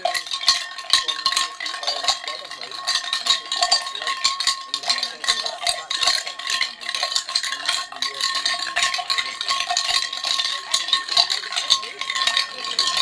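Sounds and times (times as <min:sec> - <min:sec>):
irregular rattling and clattering: 0:00.0 - 0:13.0.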